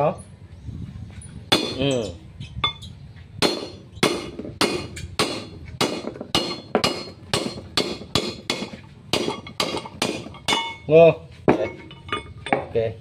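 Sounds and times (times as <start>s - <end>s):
hammer striking metal: 1.5s - 2.0s, 2.7s - 12.8s.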